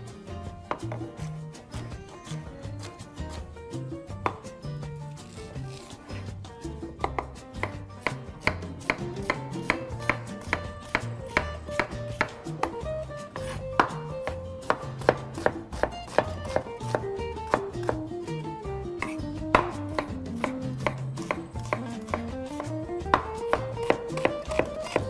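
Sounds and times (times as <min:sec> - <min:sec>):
background music: 0:00.0 - 0:25.0
knife chopping on wooden board: 0:00.7 - 0:18.3, 0:18.9 - 0:25.0.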